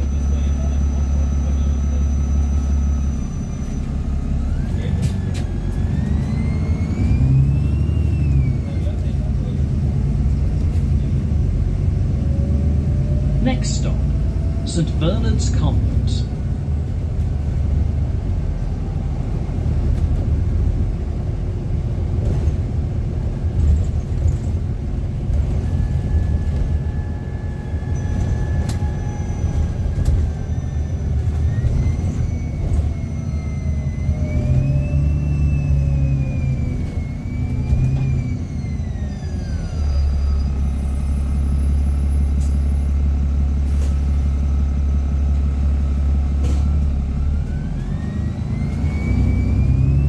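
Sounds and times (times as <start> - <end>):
bus engine deep rumble: 0.0 - 50.0.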